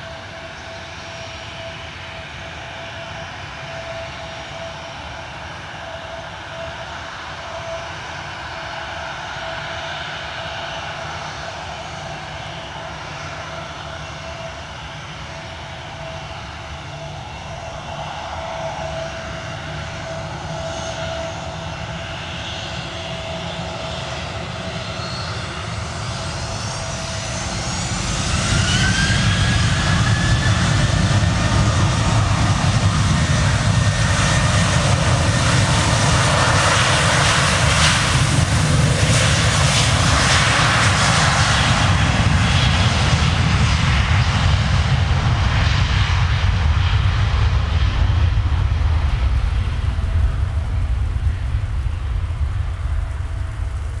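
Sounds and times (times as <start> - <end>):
jet engines whining: 0.0 - 54.0
loud jet noise: 0.0 - 54.0.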